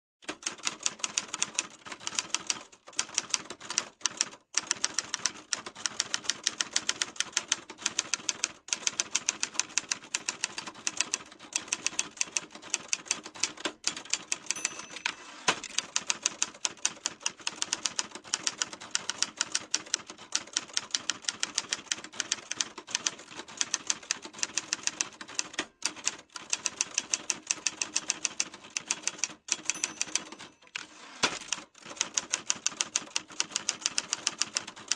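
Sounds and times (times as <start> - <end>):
typewriter keys clicking: 0.2 - 34.9.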